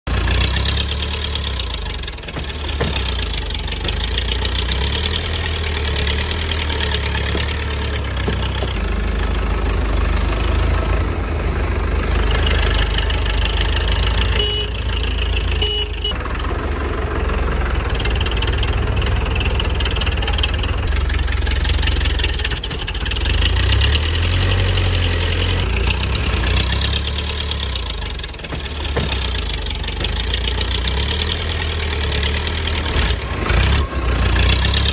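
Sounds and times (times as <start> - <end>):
tractor engine idling: 0.1 - 34.9.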